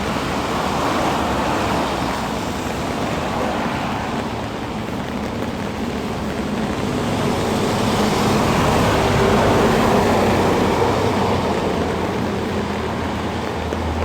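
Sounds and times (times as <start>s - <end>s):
motor vehicle passing: 0.0s - 14.0s
rain hissing: 0.0s - 14.0s.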